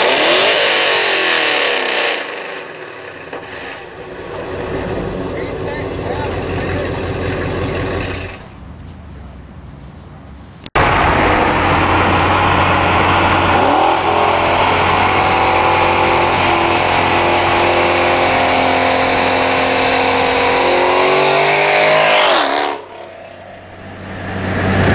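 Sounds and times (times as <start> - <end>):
car engine at speed: 0.0 - 8.9, 10.7 - 24.9
wind and road noise: 0.0 - 24.9.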